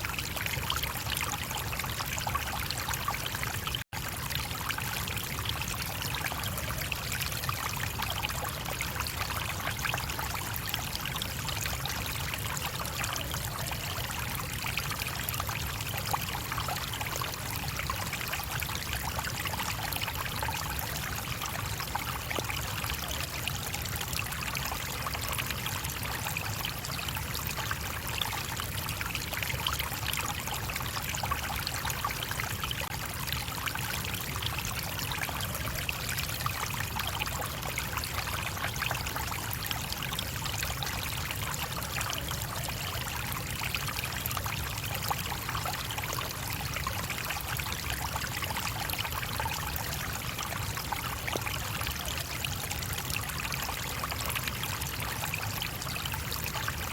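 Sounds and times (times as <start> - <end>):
stream babbling over rocks: 0.0 - 56.9.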